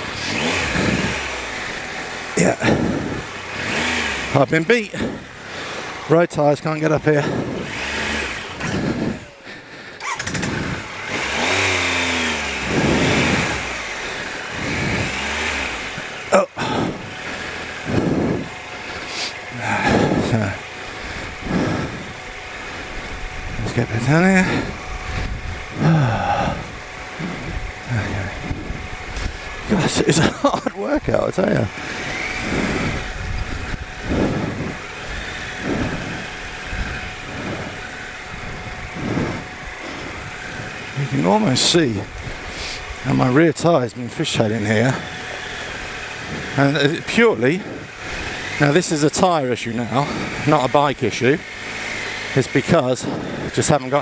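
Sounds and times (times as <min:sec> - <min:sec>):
man breathing heavily: 0:00.0 - 0:04.0, 0:04.8 - 0:06.1, 0:06.9 - 0:11.2, 0:12.6 - 0:30.2, 0:30.8 - 0:43.1, 0:44.9 - 0:48.9, 0:49.7 - 0:50.6, 0:53.0 - 0:53.6
motorcycle engine revving: 0:00.0 - 0:54.0.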